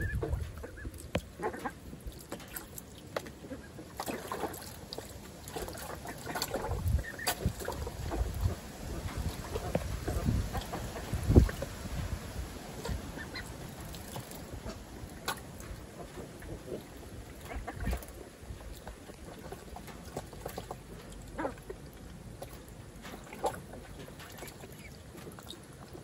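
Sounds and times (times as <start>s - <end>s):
young ducks quacking: 0.0s - 11.7s, 12.7s - 22.6s
light splashing water: 0.0s - 26.0s.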